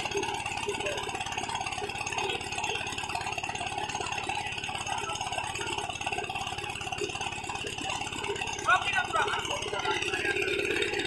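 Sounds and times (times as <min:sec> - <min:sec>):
engine rattle: 0:00.0 - 0:11.0
small boat engine running: 0:00.0 - 0:11.0.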